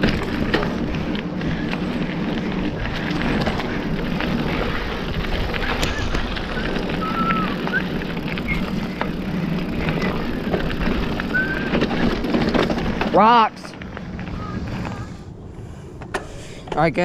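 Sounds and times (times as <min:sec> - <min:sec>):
bike rattling: 0:00.0 - 0:17.0
bike tyres on dirt and rocks: 0:00.0 - 0:17.0.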